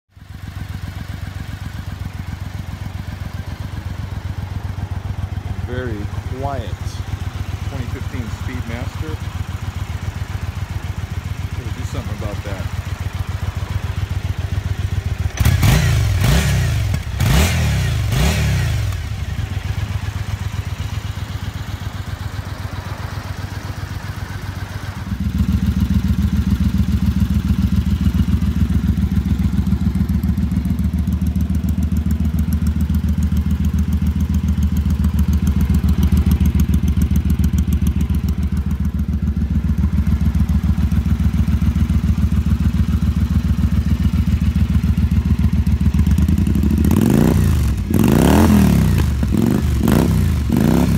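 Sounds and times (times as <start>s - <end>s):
motorcycle engine idling: 0.1s - 50.9s
motorcycle engine revving: 0.2s - 50.9s.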